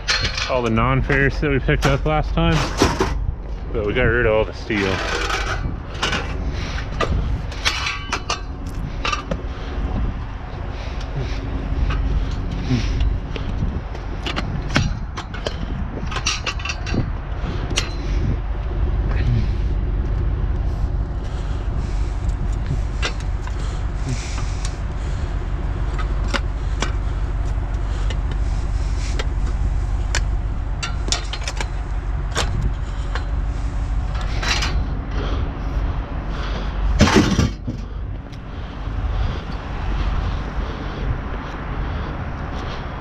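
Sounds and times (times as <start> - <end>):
low engine-like hum: 0.0 - 43.0.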